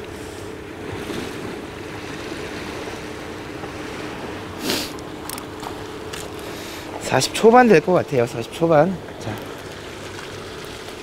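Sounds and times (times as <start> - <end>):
distant motorboat engine drone: 0.0 - 11.0
wind: 0.0 - 11.0
sea wash on rocks: 0.8 - 11.0.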